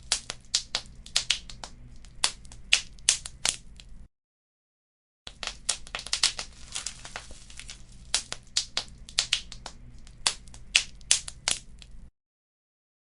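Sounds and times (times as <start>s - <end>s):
wood fire crackling: 0.0s - 4.0s, 5.3s - 12.1s.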